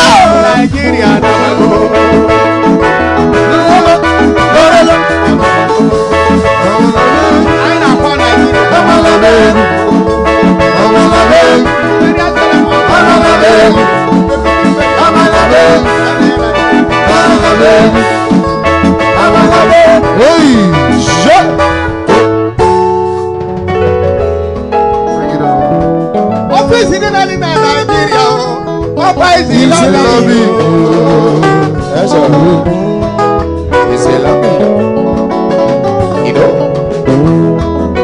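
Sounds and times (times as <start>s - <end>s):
man singing: 0.0s - 22.3s, 26.5s - 37.4s
drum kit: 0.0s - 38.0s
electric bass: 0.0s - 38.0s
keyboard: 0.0s - 38.0s.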